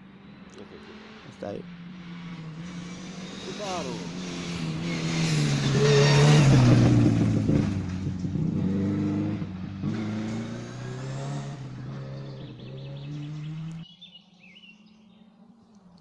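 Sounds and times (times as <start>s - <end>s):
rally car passing at speed: 0.0s - 13.8s.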